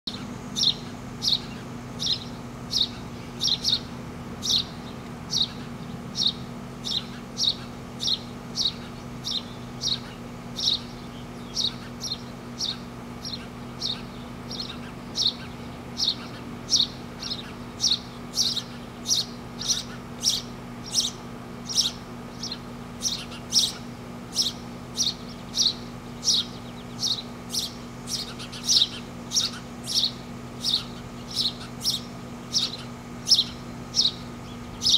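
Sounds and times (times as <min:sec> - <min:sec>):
baby birds begging calls: 0:00.1 - 0:34.9.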